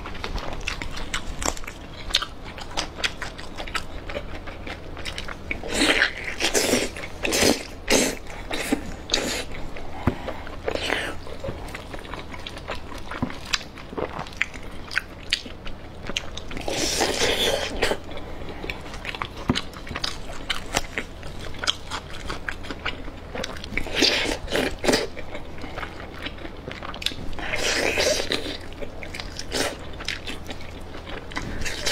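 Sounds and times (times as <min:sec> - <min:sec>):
crunchy chewing: 0:00.0 - 0:31.9.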